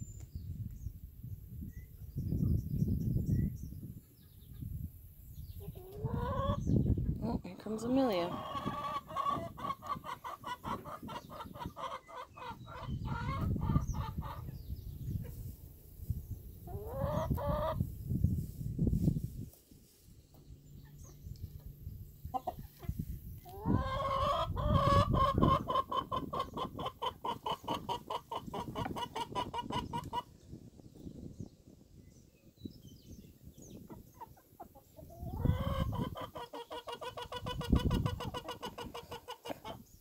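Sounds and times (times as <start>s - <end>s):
chicks pulsing calls: 0.4s - 40.0s
quiet chicken clucks: 3.8s - 31.1s, 33.4s - 40.0s.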